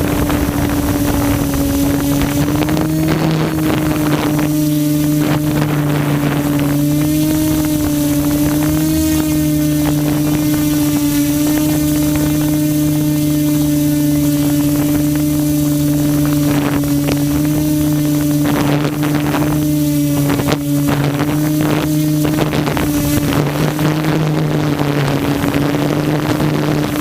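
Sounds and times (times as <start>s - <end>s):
drone propellers humming: 0.0s - 27.0s
wind buffeting microphone: 0.0s - 27.0s.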